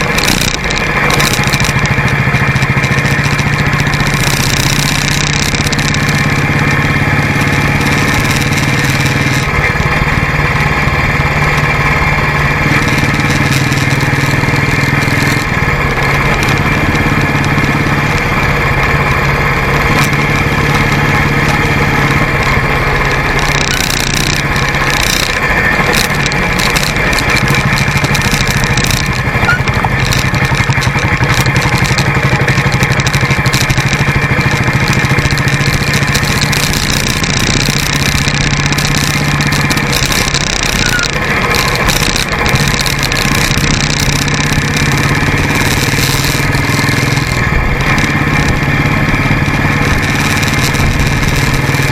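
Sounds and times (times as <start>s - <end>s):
clatter and knocks on gravel: 0.0s - 51.9s
motorcycle engine running: 0.0s - 51.9s
road noise: 0.0s - 51.9s.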